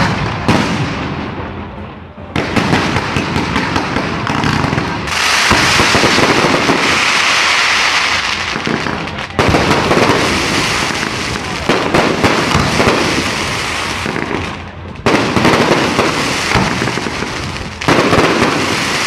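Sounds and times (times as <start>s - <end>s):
firework bangs: 0.0s - 19.0s
firework crackling: 0.0s - 19.0s.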